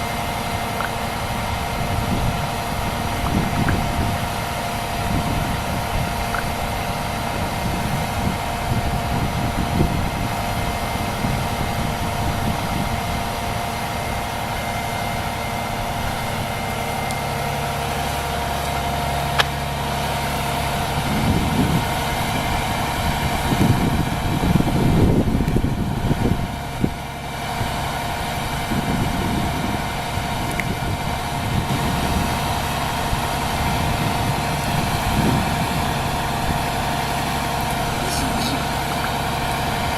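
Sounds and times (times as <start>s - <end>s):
fire truck engine idling: 0.0s - 39.9s.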